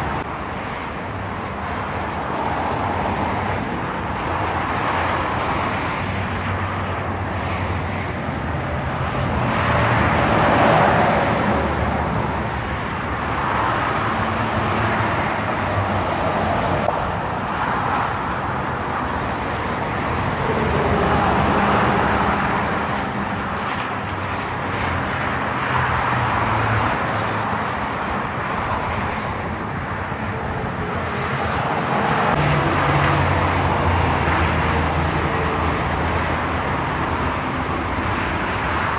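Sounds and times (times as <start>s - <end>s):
heavy trucks passing: 0.0s - 38.9s
highway traffic: 0.0s - 38.9s.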